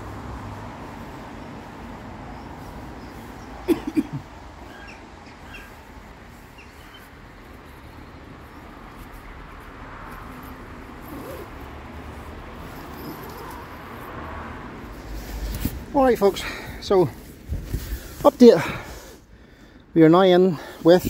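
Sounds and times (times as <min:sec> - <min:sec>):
outdoor background hum: 0:00.0 - 0:20.0.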